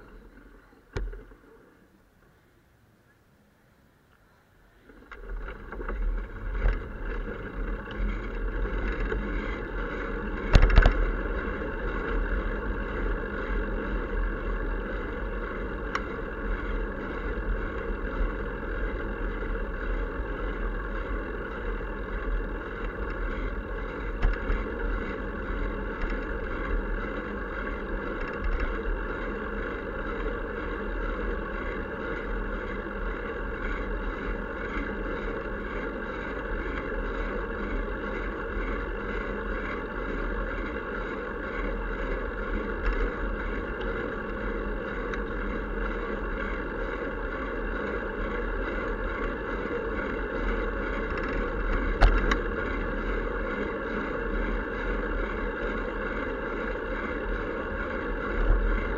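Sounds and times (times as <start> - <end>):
wind: 0.0 - 58.9.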